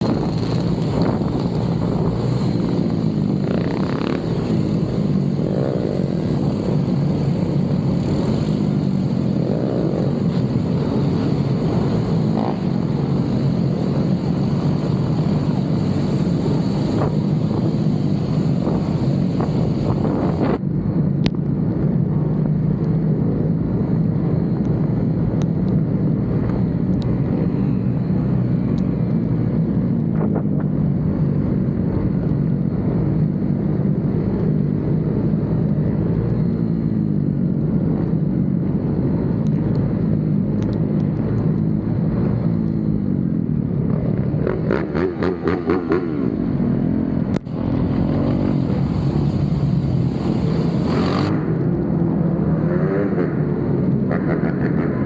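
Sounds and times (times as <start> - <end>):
motorcycle engine running: 0.0 - 55.0
wind and road noise hiss: 0.0 - 55.0.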